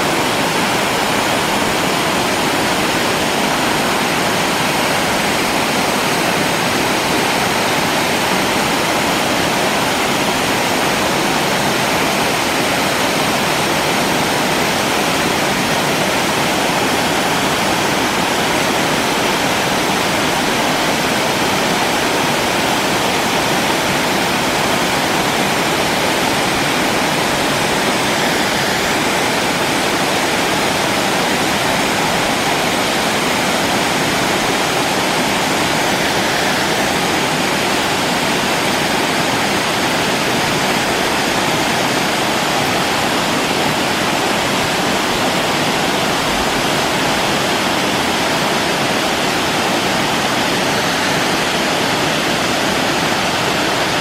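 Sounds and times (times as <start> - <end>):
waterfall splashing: 0.0 - 54.0.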